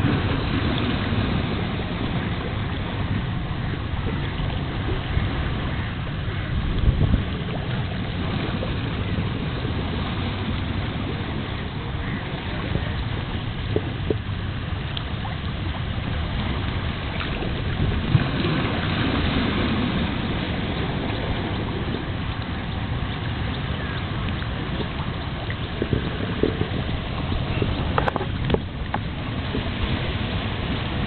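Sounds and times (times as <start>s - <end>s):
low rumble: 0.0s - 31.0s
water: 0.0s - 31.0s
wind: 0.0s - 31.0s.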